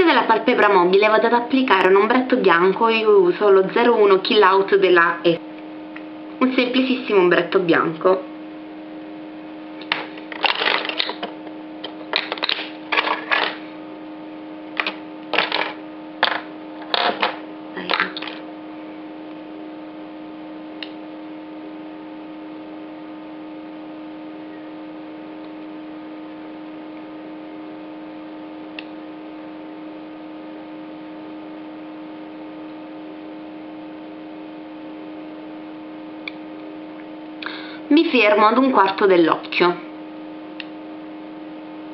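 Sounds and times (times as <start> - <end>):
steady electrical hum: 0.0 - 41.9.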